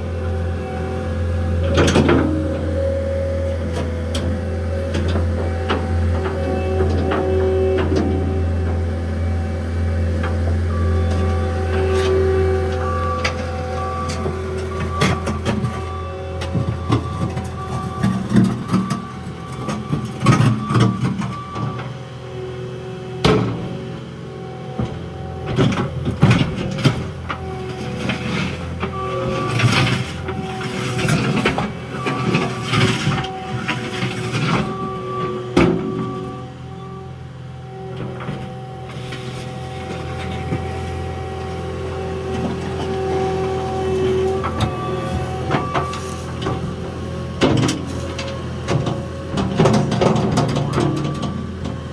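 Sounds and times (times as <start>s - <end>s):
diesel engine under load: 0.0s - 51.9s
hydraulic whine: 0.0s - 51.9s.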